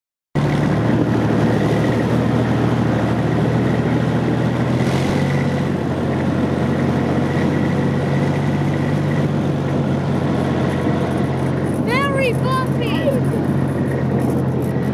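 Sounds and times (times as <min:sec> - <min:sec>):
military vehicle engine running: 0:00.4 - 0:14.9.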